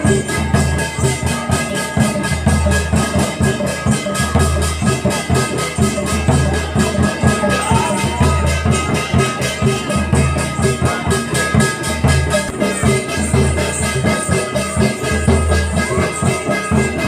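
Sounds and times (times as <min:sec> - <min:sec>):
high-pitched percussion strikes: 0:00.0 - 0:17.0.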